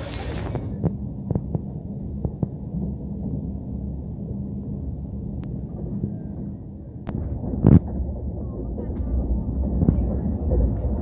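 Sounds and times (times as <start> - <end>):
train rumble inside coach: 0.0 - 11.0.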